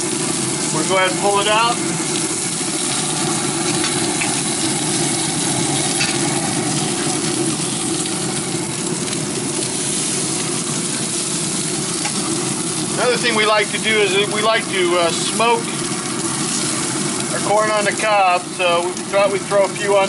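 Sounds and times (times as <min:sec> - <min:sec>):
chicken sizzling on a grill: 0:00.0 - 0:20.0.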